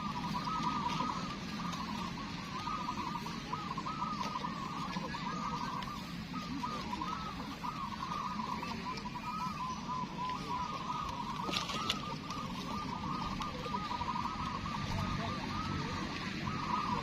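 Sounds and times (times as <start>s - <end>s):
zebra doves cooing: 0.0s - 17.0s.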